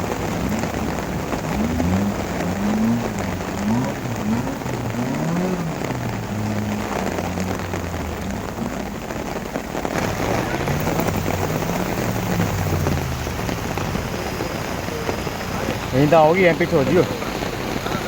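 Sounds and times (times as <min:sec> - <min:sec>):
heavy rain pelting down: 0:00.0 - 0:18.0
vehicle engine revving: 0:00.0 - 0:18.0.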